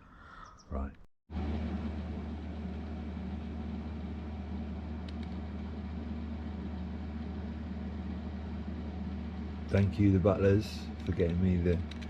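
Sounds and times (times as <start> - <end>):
low machine hum: 1.3 - 12.0.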